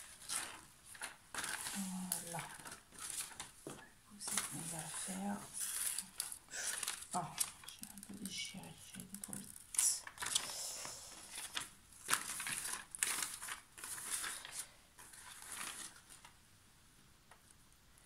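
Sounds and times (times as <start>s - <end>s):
paper rustling and crinkling: 0.0s - 16.4s.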